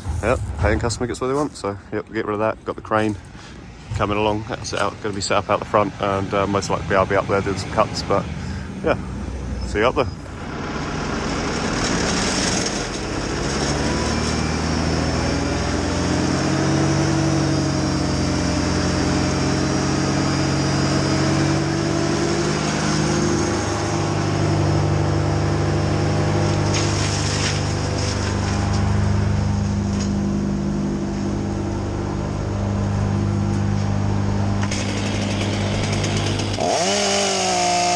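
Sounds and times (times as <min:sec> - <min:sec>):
vehicle engine running: 0:03.0 - 0:37.9.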